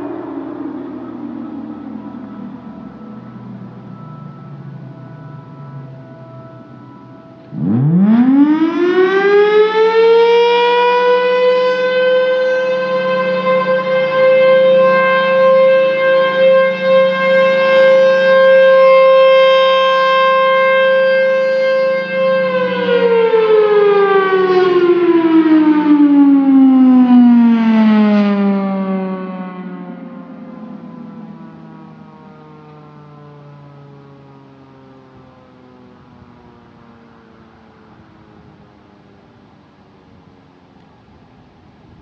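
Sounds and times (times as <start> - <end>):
low steady drone: 0.0 - 42.0
rotating warning siren: 0.0 - 42.0.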